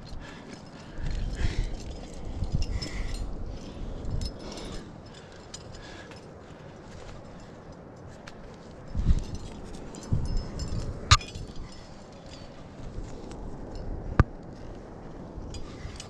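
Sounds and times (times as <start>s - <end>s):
low gusty rumble: 0.0s - 8.0s, 8.8s - 16.0s
climbing gear clinking: 0.0s - 16.0s.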